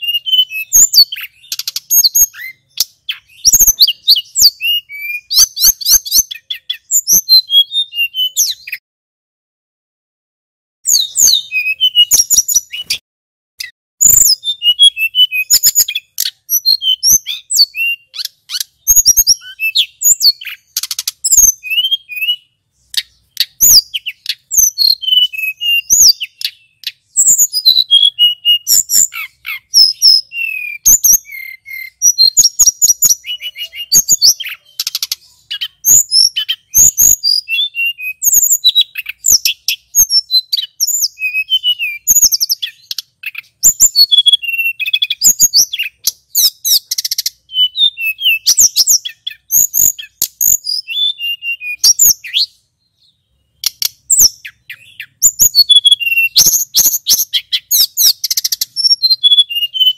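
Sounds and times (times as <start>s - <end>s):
flycatcher singing: 0.0s - 8.8s, 10.8s - 13.0s, 13.6s - 59.9s.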